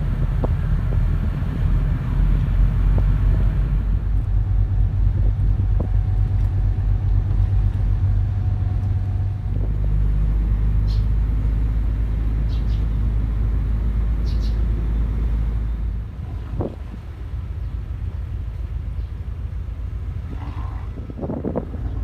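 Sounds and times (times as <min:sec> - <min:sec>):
speedboat engine rumbling: 0:00.0 - 0:22.0.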